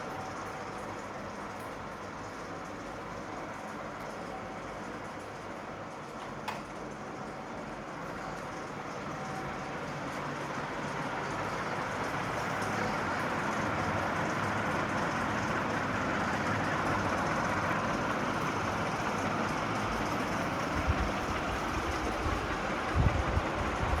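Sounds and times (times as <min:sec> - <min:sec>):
ceiling fan running: 0:00.0 - 0:24.0.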